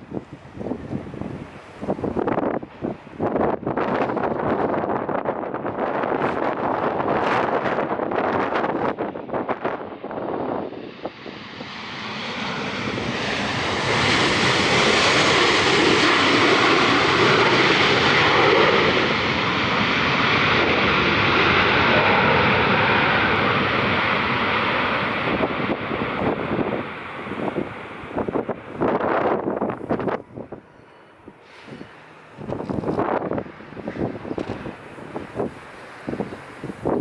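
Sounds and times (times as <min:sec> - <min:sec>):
airliner engine passing: 0:00.0 - 0:37.0
wind buffeting microphone: 0:00.0 - 0:37.0.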